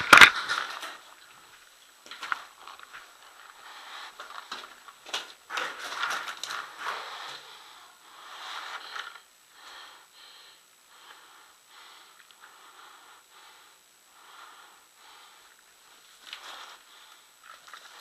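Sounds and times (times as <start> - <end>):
person breathing hard: 3.2 - 18.0.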